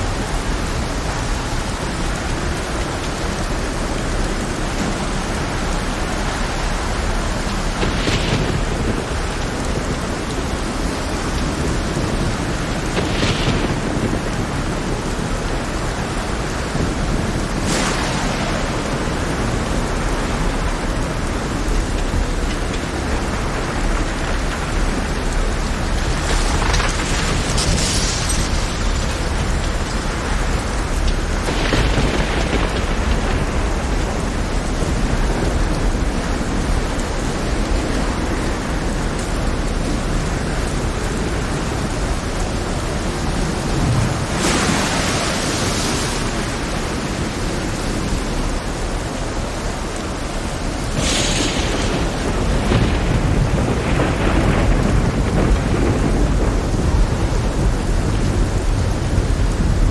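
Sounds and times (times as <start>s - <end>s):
deep thunder rumble: 0.0s - 59.9s
heavy storm rain: 0.0s - 59.9s
thunder crashes: 3.6s - 48.6s, 50.6s - 59.9s.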